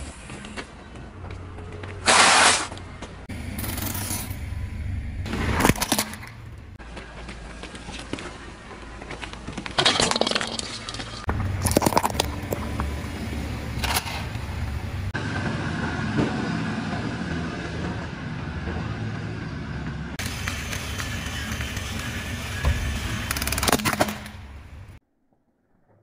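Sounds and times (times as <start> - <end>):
engine and tyre rumble: 2.7 - 9.7, 10.9 - 25.0.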